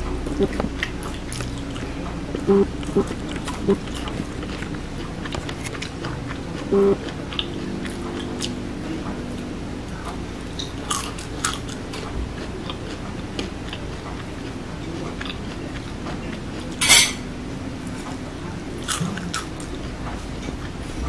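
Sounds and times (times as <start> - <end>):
person chewing crispy food: 0.0 - 16.8, 17.8 - 21.0.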